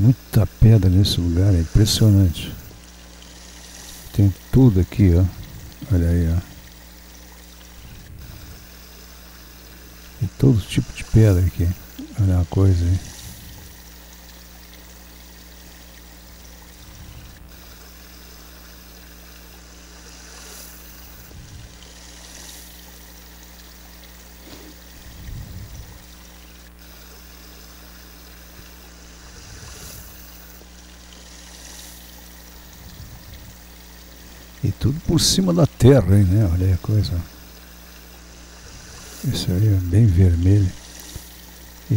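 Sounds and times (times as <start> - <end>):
stream trickling over stones: 0.0 - 41.9.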